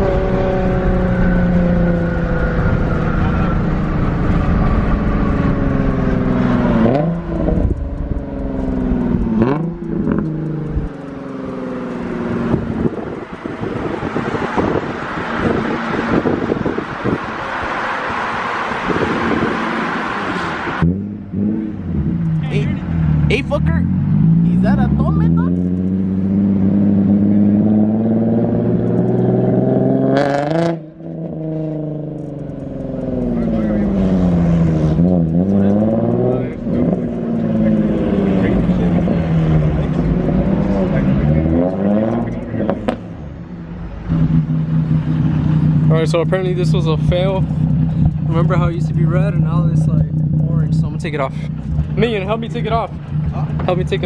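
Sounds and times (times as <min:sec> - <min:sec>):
car engine revving through loud exhaust: 0:00.0 - 0:54.0.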